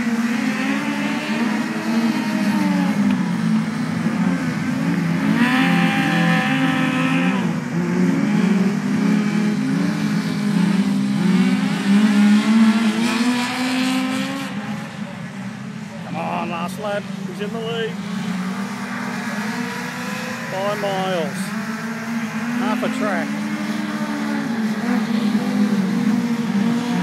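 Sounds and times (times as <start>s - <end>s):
racing car engines revving: 0.0s - 27.0s.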